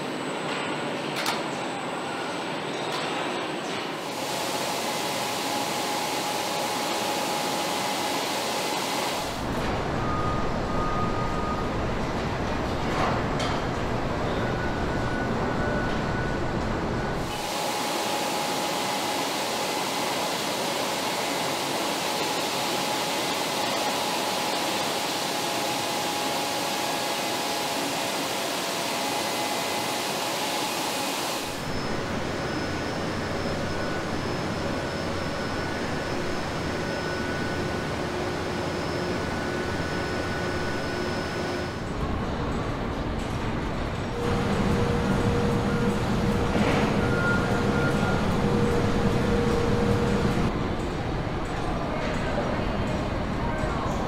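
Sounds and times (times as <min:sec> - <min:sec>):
faint machinery whine: 0:00.0 - 0:54.0.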